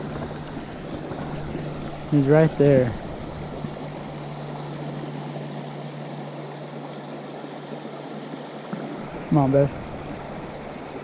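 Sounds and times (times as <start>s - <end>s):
flowing water rushing: 0.0s - 11.0s
low steady hum: 0.0s - 11.0s.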